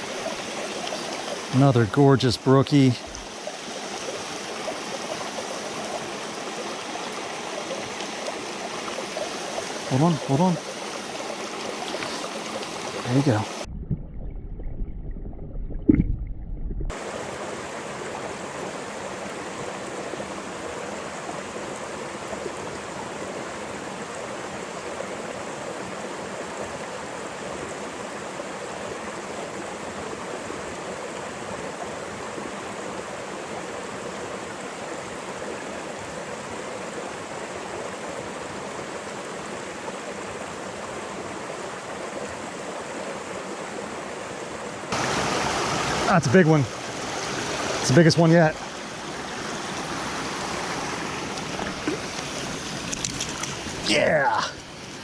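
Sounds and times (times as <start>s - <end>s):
mountain stream rushing: 0.0s - 13.7s, 16.9s - 55.0s.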